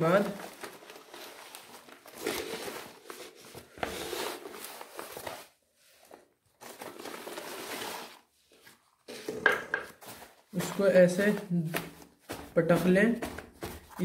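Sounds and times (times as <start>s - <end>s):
plastic sack crinkling: 0.0s - 5.6s, 6.5s - 14.0s.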